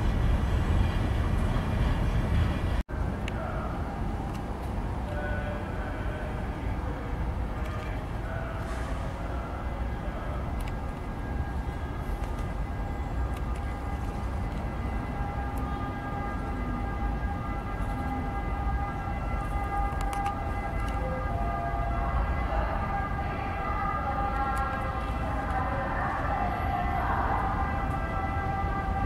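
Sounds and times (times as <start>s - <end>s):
freight train rumbling: 0.0s - 29.0s.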